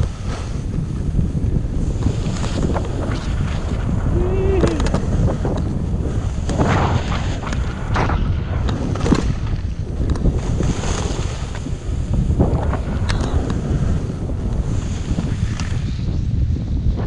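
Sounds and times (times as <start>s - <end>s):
skis scraping over packed snow: 0.0s - 16.5s
wind buffeting microphone: 0.0s - 17.0s.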